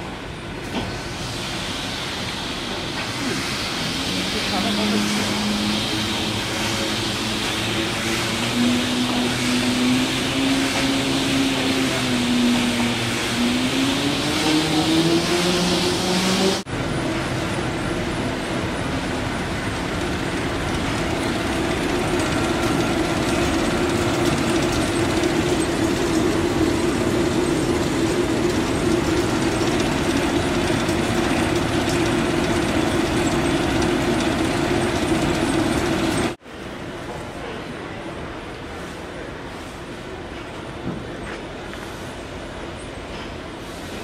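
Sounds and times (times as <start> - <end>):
industrial machinery humming: 0.0 - 36.5.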